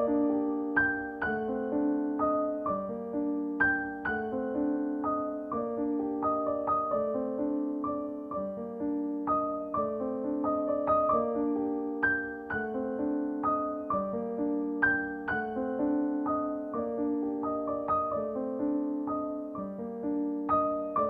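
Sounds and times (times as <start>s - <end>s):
slow solo piano: 0.0s - 21.0s.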